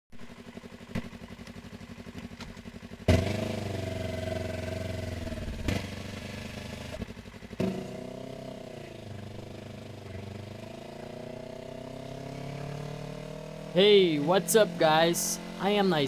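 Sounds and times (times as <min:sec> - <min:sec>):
motorcycle engine running: 0:00.2 - 0:16.0.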